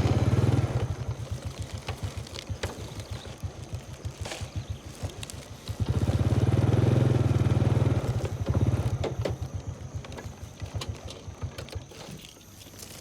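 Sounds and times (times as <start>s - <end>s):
small engine chugging past: 0.0s - 12.2s.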